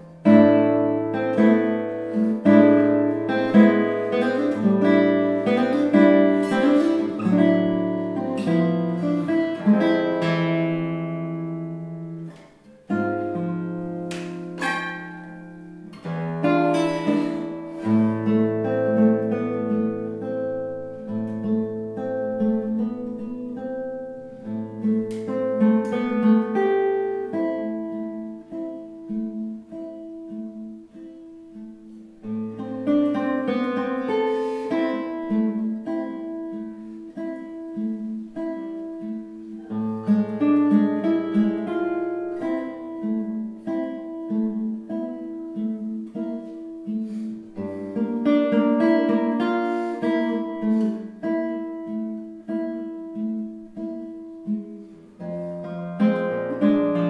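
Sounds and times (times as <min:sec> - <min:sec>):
fingerstyle classical guitar: 0:00.0 - 0:57.0.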